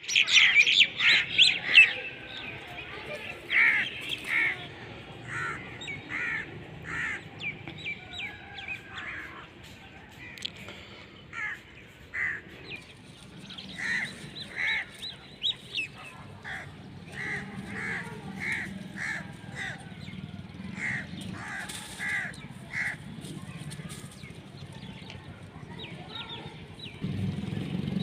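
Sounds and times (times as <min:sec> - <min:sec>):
harsh bird calls: 0:00.0 - 0:28.0.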